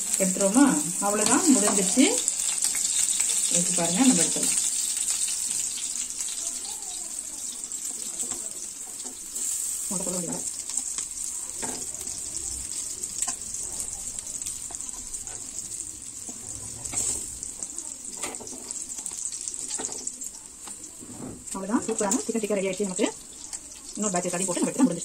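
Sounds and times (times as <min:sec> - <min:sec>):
oil sizzling in a frying pan: 0:00.0 - 0:25.0.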